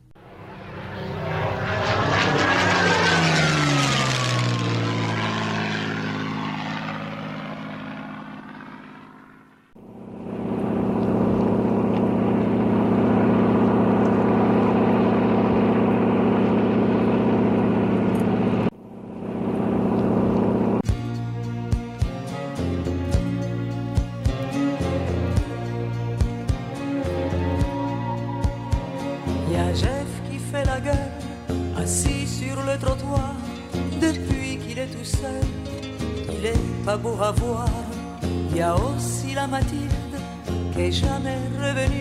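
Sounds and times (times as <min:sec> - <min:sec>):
propeller airplane flying past: 0:00.0 - 0:42.0
propeller engine drone: 0:00.0 - 0:42.0.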